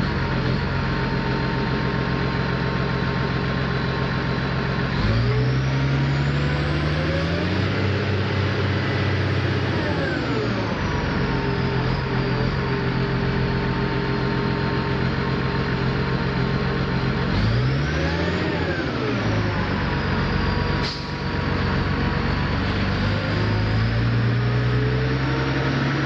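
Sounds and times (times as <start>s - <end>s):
diesel engine revving under load: 0.0s - 26.0s.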